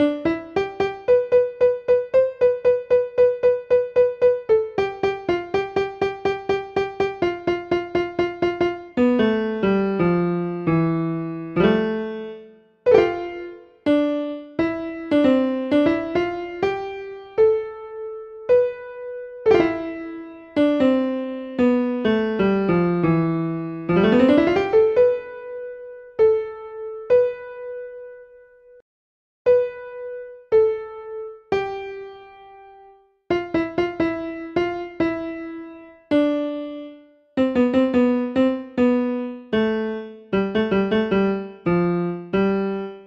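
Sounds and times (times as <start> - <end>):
solo piano music: 0.0 - 28.8, 29.5 - 43.0.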